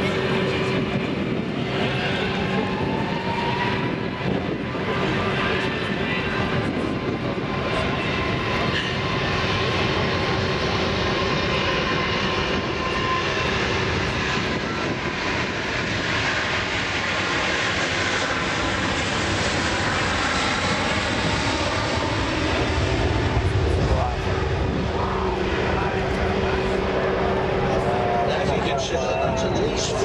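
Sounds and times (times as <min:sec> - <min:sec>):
jet engines roaring on take-off: 0:00.0 - 0:30.0.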